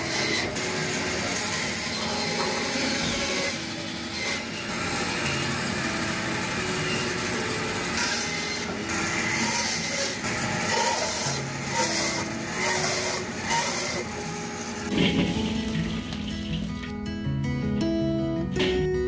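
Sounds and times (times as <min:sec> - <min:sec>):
band saw cutting bone: 0:00.0 - 0:15.9.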